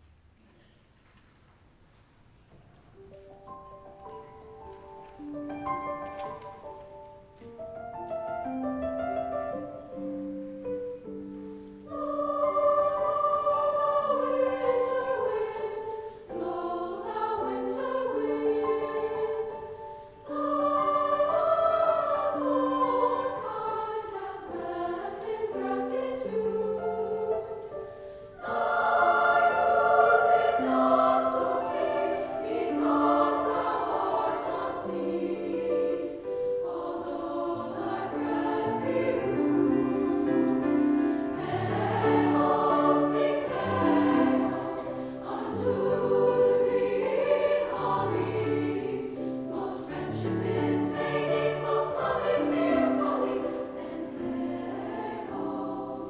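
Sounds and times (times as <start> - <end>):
children's choir singing: 9.7 - 56.0.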